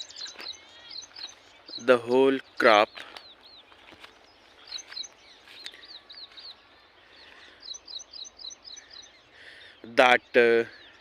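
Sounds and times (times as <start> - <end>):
faint outdoor background noise: 0.0 - 11.0
small birds chirping: 0.0 - 11.0.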